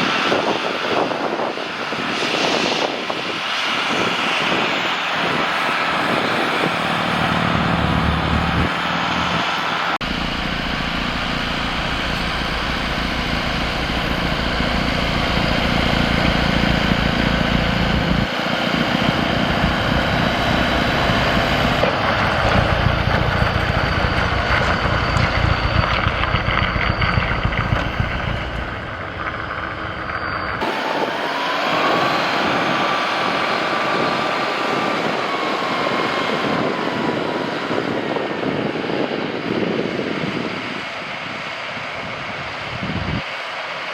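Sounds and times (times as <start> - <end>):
snowblower whine: 0.0 - 43.9
tractor diesel engines running: 0.0 - 43.9.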